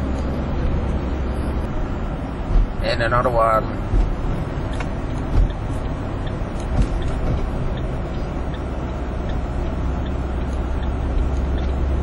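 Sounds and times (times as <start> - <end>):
van road and engine rumble: 0.0 - 12.0.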